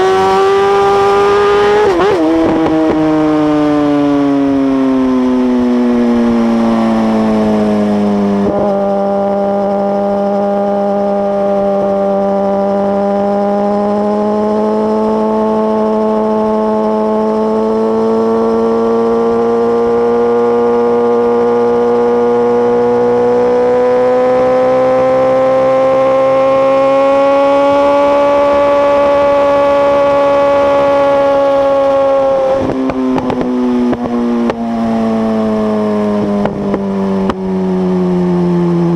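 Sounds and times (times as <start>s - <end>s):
motorcycle engine revving high: 0.0s - 38.9s.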